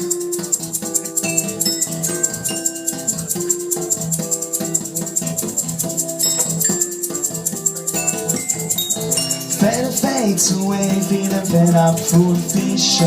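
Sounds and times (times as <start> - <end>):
acoustic guitar picking notes: 0.0 - 13.0
shaker rhythm: 0.0 - 13.0.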